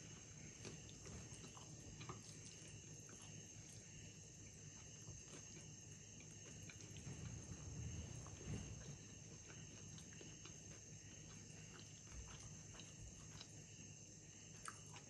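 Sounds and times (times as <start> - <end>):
wet chewing sounds: 0.0 - 15.0.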